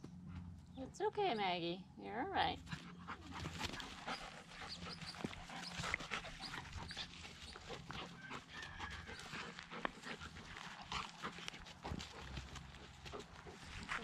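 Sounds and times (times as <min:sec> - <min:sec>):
dog panting: 0:02.6 - 0:14.0
paws scuffling and rustling: 0:02.6 - 0:14.0.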